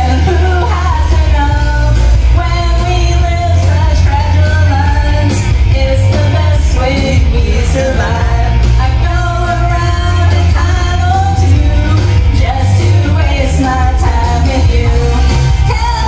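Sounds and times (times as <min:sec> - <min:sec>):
backing track with heavy bass: 0:00.0 - 0:16.0
woman singing karaoke: 0:00.0 - 0:16.0.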